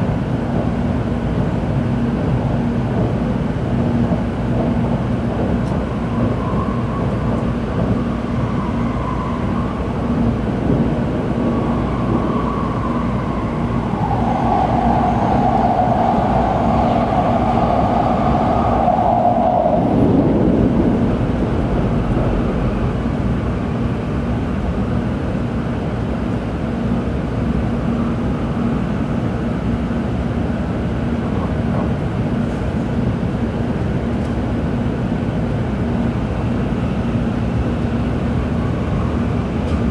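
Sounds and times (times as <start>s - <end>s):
train wheels rumbling on track: 0.0s - 39.9s
train whine: 0.0s - 39.9s.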